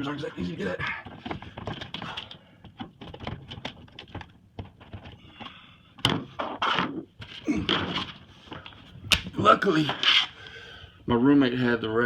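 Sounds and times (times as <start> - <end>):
scraping and handling noise: 0.0 - 10.4.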